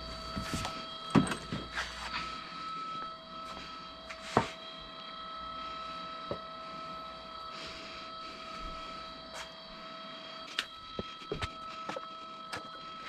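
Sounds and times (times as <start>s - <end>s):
steady high-pitched hum: 0.0s - 13.0s.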